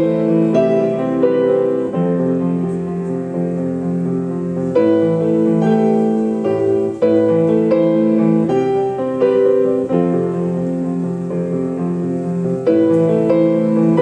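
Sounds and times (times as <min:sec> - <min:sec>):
slow solo piano piece: 0:00.0 - 0:14.0.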